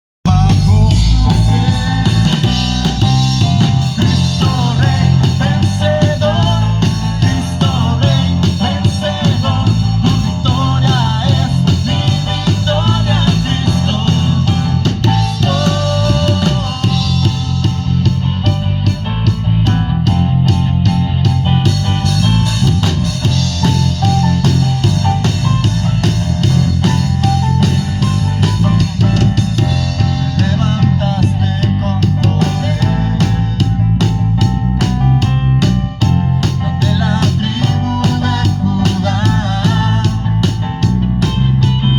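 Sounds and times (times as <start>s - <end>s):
bass: 0.1s - 41.9s
guitar: 0.2s - 41.9s
band playing a song: 0.3s - 41.9s
drum kit beat: 0.3s - 41.9s.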